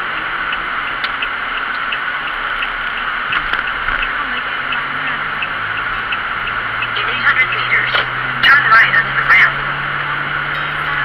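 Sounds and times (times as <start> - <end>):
vehicle travelling noise: 0.0 - 11.0
faint regular ticking: 0.4 - 9.5.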